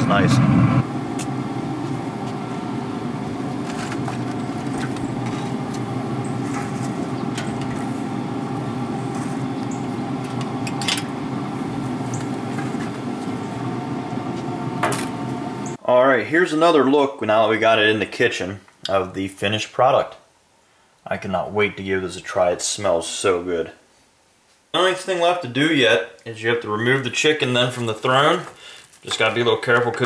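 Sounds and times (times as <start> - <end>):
grill fan humming: 0.0 - 30.0.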